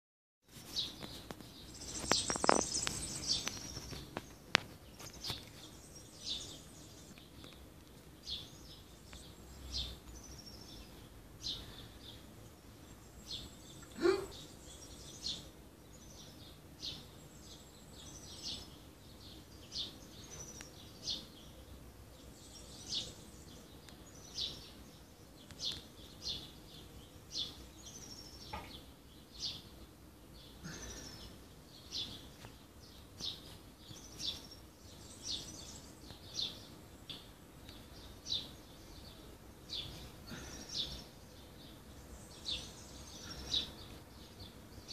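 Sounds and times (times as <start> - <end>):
birds chirping: 0.6 - 44.9.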